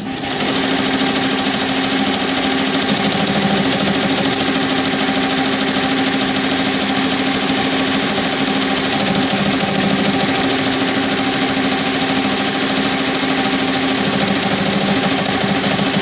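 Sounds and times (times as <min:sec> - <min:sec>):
embroidery machine stitching: 0:00.0 - 0:16.0
machine rattling: 0:00.0 - 0:16.0.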